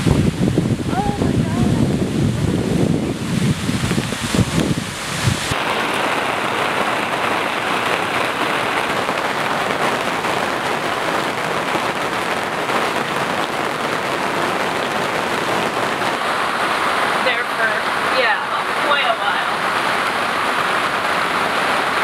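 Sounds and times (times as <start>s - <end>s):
heavy rain on tent fabric: 0.0s - 22.0s
rushing flood water: 0.0s - 22.0s.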